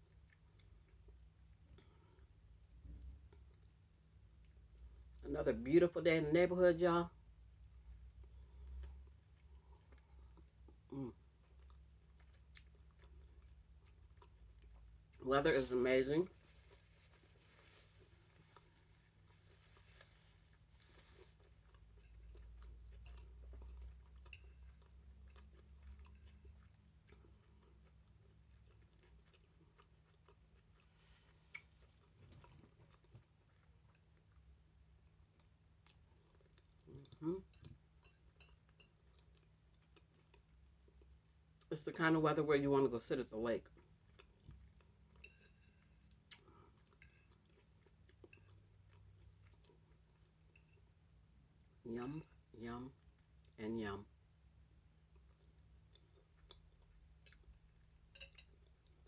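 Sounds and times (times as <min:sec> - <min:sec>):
person chewing: 0:00.0 - 0:05.2, 0:07.8 - 0:15.2, 0:16.3 - 0:41.7, 0:43.7 - 0:51.8, 0:54.8 - 0:59.0
low steady hum: 0:00.0 - 0:59.0.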